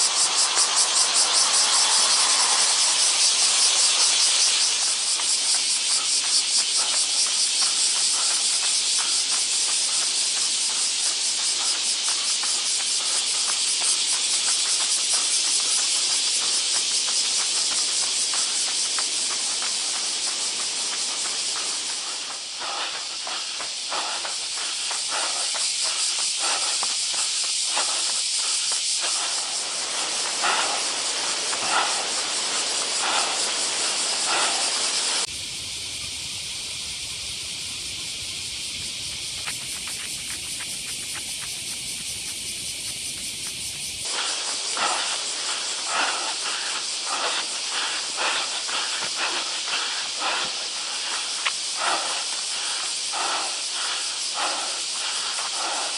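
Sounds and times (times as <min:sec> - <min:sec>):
cicadas droning: 0:00.0 - 0:55.9.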